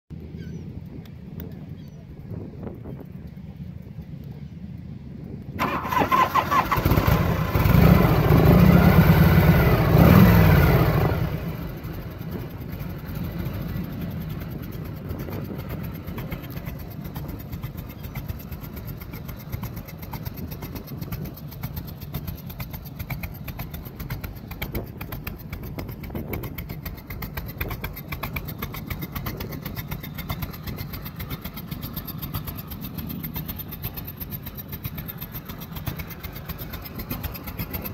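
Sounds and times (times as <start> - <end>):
motorcycle engine starting and revving: 5.4 - 37.9.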